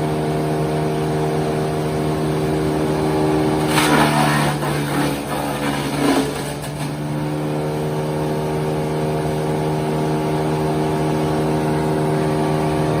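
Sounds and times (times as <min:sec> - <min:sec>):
wood chipper engine running: 0:00.0 - 0:13.0.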